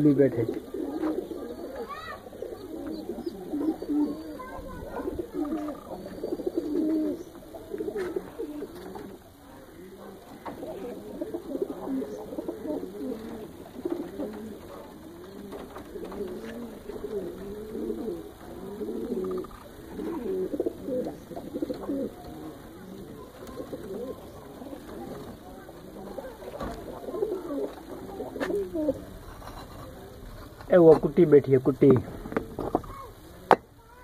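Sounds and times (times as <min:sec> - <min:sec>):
pigeons cooing: 0:00.0 - 0:30.3.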